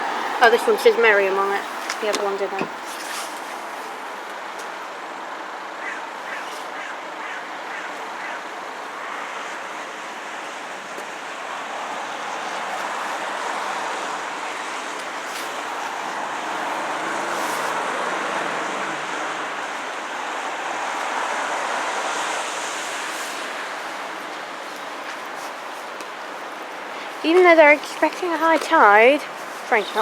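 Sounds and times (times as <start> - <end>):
cars driving by: 0.0 - 30.0.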